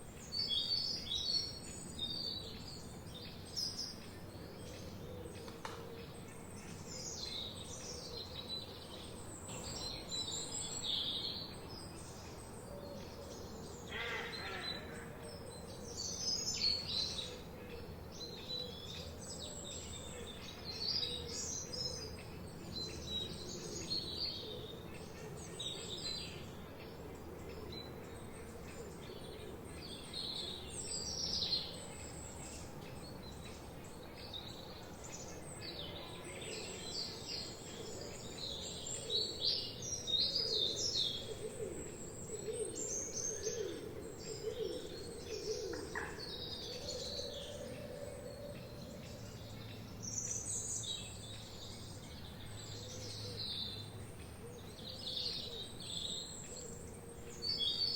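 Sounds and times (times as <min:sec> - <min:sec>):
songbirds chirping and warbling: 0:00.0 - 0:57.9.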